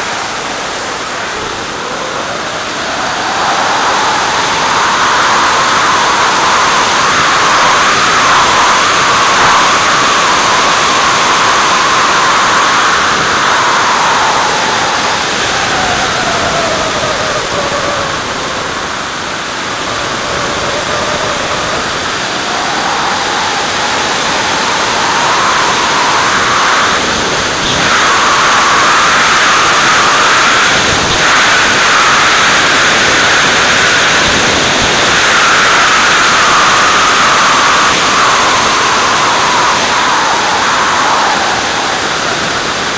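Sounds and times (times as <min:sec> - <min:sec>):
high model engine whine: 0:00.0 - 0:42.9
wind rushing over camera: 0:00.0 - 0:42.9.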